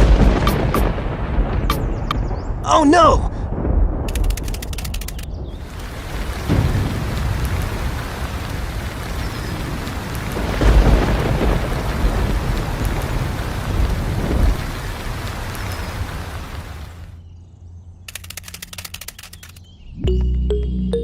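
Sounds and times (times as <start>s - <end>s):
low rolling thunder: 0.0s - 17.0s
steady rain: 0.0s - 17.2s.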